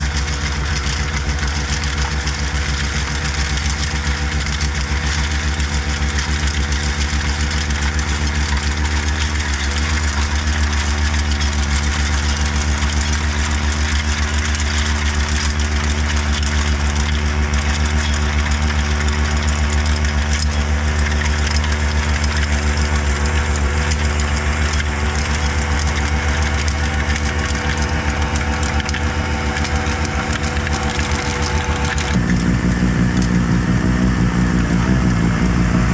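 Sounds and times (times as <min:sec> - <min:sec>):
diesel engine running steadily: 0:00.0 - 0:35.9.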